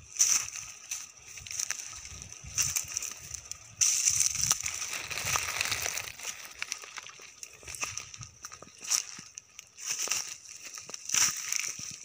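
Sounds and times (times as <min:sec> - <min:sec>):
brush crackling and rustling: 0:00.0 - 0:12.0
footsteps crunching through leaves: 0:00.0 - 0:12.0.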